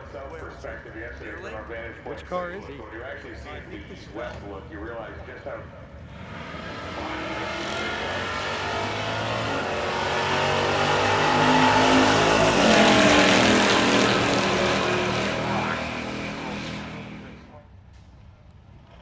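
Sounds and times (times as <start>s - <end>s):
drag car engine passing: 2.8s - 19.0s.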